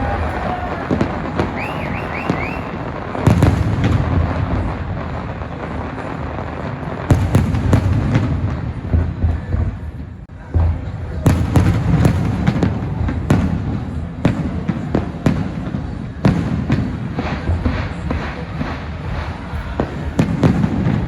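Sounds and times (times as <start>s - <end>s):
fireworks booming and cracking: 0.0s - 21.0s.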